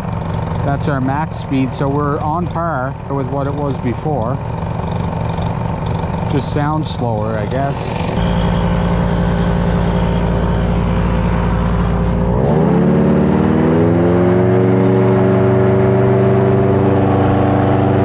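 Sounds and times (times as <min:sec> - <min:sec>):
engine driving propeller: 0:00.0 - 0:18.0.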